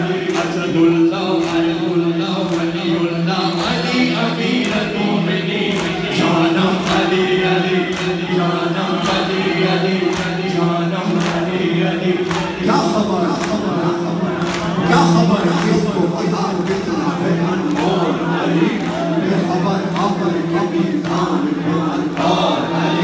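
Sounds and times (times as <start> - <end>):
amplified man's voice leading: 0.0 - 23.0
crowd of men chanting: 0.0 - 23.0
rhythmic chest slaps: 0.0 - 23.0.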